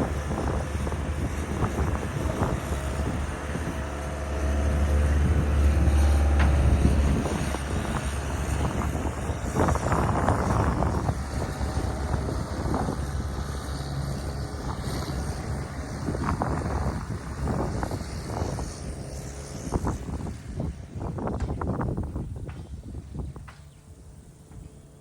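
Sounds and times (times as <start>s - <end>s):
skid steer engine droning: 0.0s - 25.0s.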